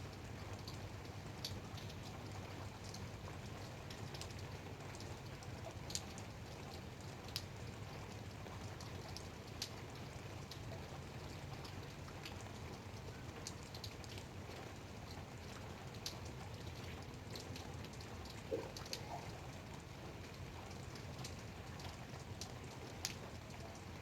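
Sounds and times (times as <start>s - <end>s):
light rain hissing: 0.0s - 24.0s
raindrops ticking: 0.1s - 24.0s.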